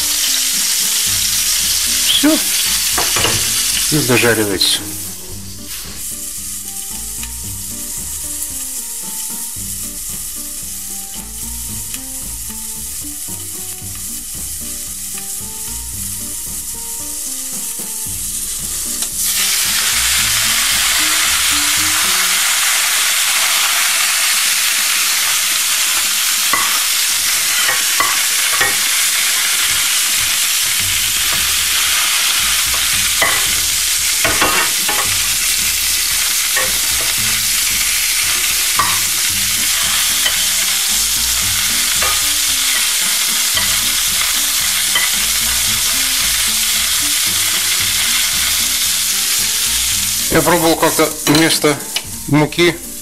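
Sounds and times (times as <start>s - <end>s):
fish frying in oil: 0.0s - 53.0s.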